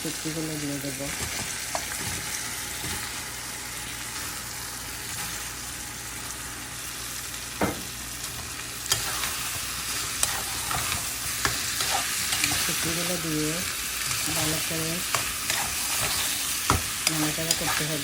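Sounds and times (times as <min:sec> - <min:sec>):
paste sizzling in hot pan: 0:00.2 - 0:18.0.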